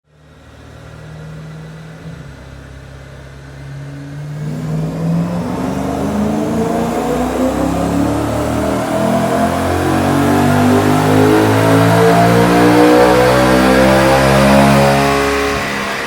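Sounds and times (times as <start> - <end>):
car engine revving on a dyno: 0.2 - 16.0.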